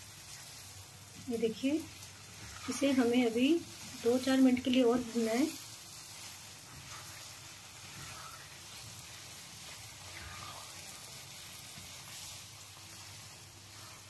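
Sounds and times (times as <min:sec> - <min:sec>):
food sizzling in a pan: 0:00.0 - 0:14.0
spatula stirring: 0:00.1 - 0:14.0.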